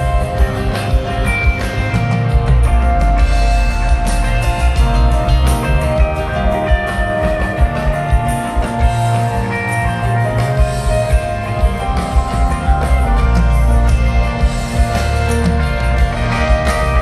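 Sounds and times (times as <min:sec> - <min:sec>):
bass guitar: 0:00.0 - 0:17.0.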